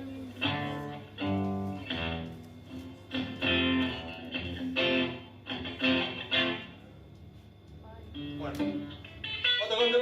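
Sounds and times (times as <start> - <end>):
guitar strumming chords: 0.0 - 6.8, 8.1 - 10.0.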